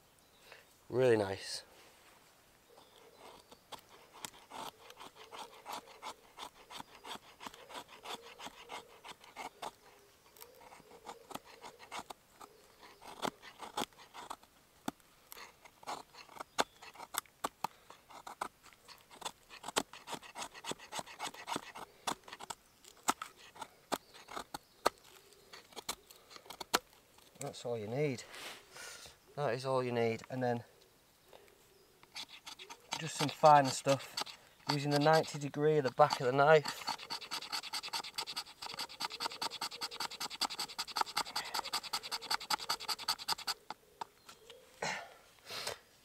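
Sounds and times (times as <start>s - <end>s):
knife scraping wood: 2.8s - 27.5s, 32.0s - 44.5s.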